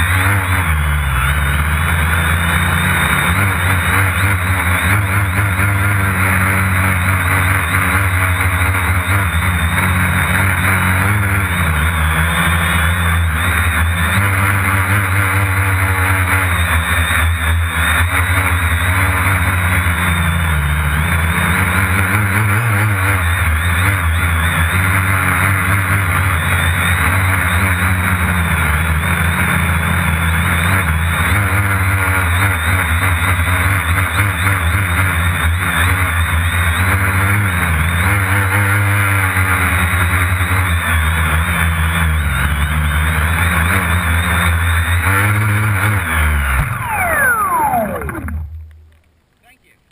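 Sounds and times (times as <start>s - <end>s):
drone propellers buzzing: 0.0s - 49.3s.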